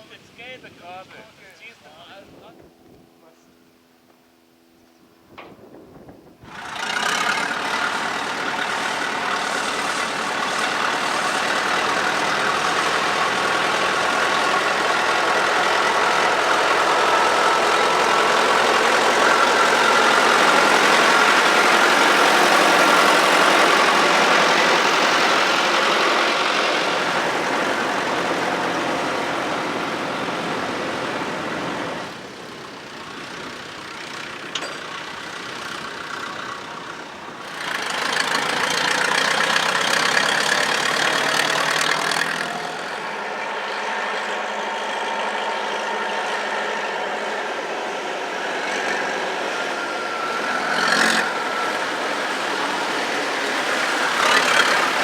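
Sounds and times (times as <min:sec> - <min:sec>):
tractor engine running: 0:01.6 - 0:55.0.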